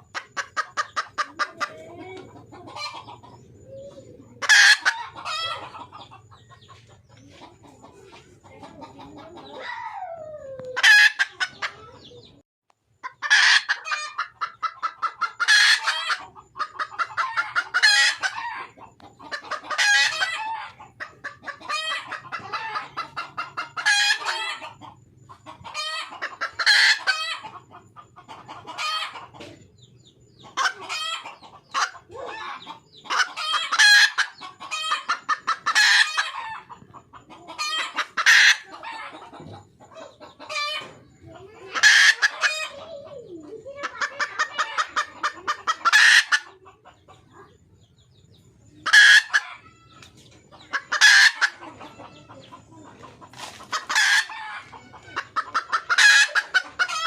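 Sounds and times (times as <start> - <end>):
hen clucking and squawking: 0.0 - 12.4, 13.0 - 57.0.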